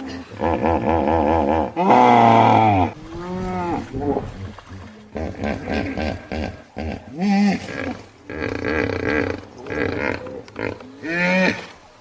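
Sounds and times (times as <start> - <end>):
hippopotamus grunting call: 0.0 - 11.8.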